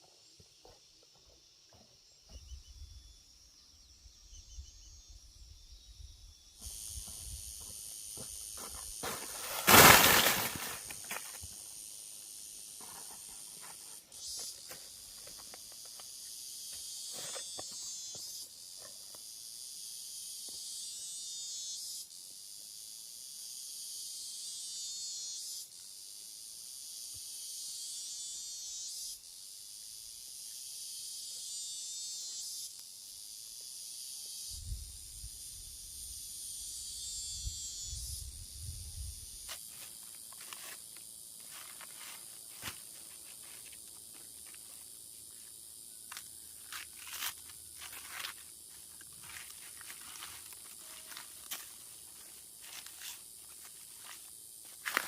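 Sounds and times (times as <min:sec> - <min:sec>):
high-pitched insects droning: 0:00.0 - 0:55.0.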